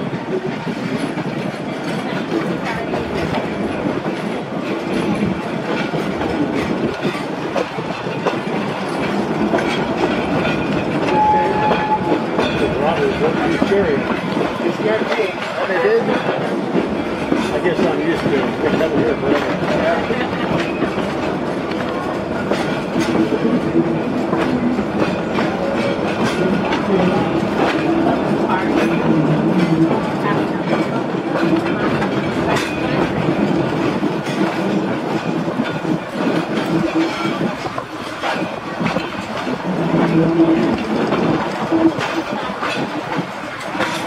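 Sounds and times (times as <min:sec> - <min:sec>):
rail joint clicks: 0:00.0 - 0:44.0
train wheels rumbling on rail: 0:00.0 - 0:44.0.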